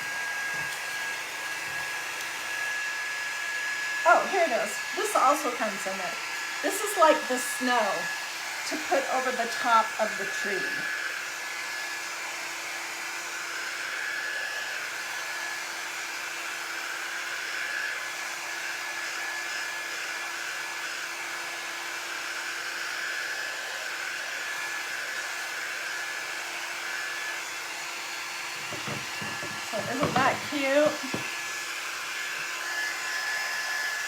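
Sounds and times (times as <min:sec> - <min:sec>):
electric dryer blowing: 0:00.0 - 0:34.0.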